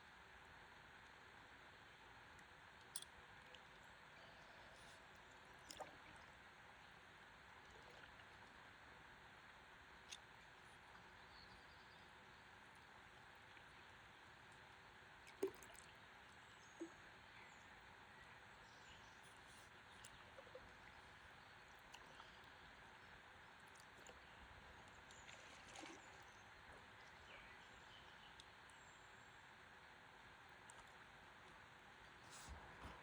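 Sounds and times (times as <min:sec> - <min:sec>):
faint river ambience: 0:00.0 - 0:33.0
small water clicks: 0:00.1 - 0:33.0.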